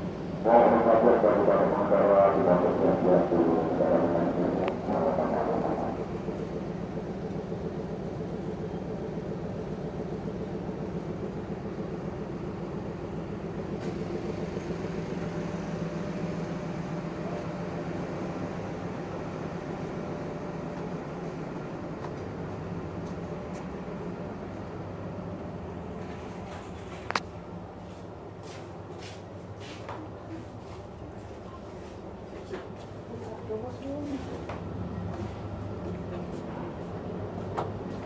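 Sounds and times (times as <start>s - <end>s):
ferry engines droning: 0.0s - 38.0s.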